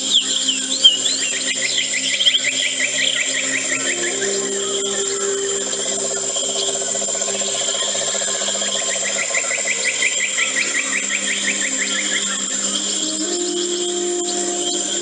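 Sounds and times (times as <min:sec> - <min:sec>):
bird chirping: 0:00.0 - 0:15.0
high insect-like hiss: 0:00.0 - 0:15.0
rapid pulsing animal call: 0:00.0 - 0:15.0
soft low music tones: 0:00.0 - 0:15.0.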